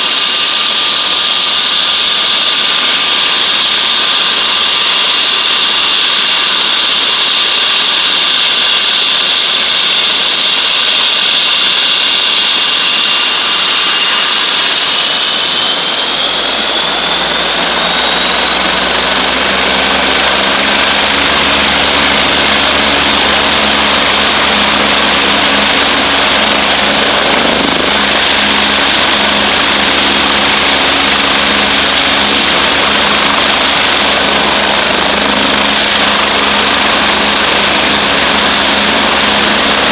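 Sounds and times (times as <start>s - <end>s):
helicopter engines whining: 0.0s - 39.9s.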